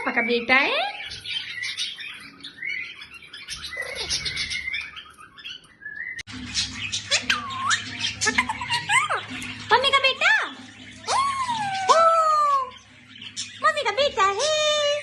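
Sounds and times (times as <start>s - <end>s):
parrot chirping and chattering: 0.0s - 15.0s.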